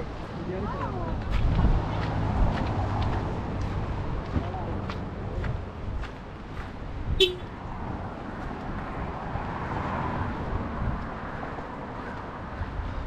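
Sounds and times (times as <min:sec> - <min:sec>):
car passing: 0:00.0 - 0:13.0
low traffic rumble: 0:00.0 - 0:13.0.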